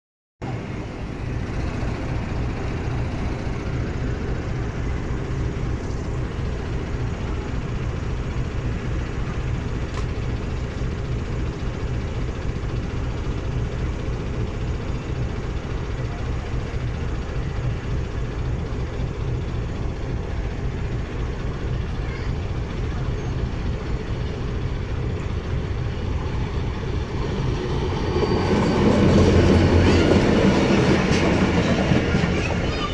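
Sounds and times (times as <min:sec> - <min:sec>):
diesel locomotive engine droning: 0:00.4 - 0:32.9.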